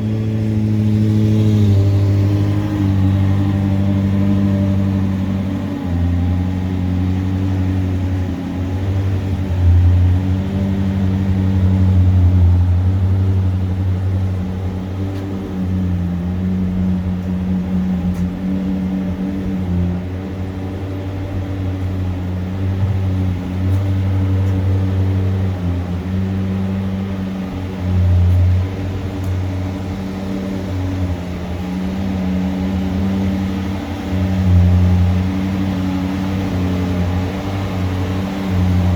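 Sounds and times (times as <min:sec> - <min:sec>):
car engine idling deeply: 0:00.0 - 0:38.9.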